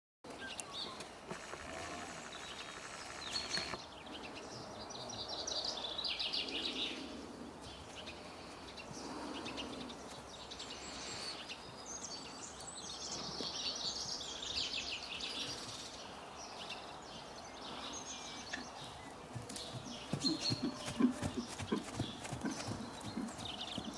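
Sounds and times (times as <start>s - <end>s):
outdoor background noise: 0.2s - 23.9s
songbirds chirping: 0.3s - 23.9s.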